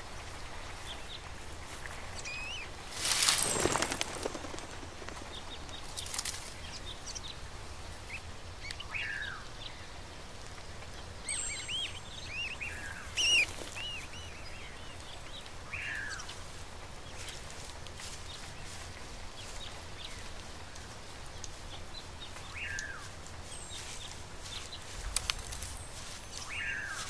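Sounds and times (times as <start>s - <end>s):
low background hum: 0.0s - 27.0s
small birds chirping: 0.2s - 27.0s.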